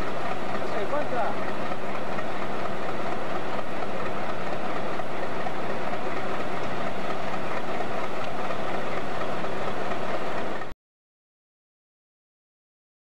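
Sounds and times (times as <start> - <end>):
diesel locomotive engine idling: 0.0 - 10.8.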